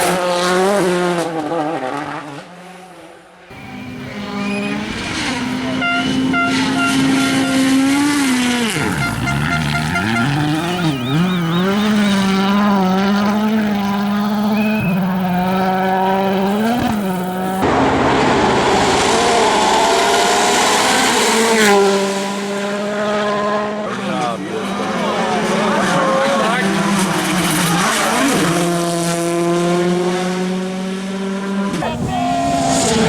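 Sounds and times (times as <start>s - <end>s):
rally car engine at high revs: 0.0s - 33.0s.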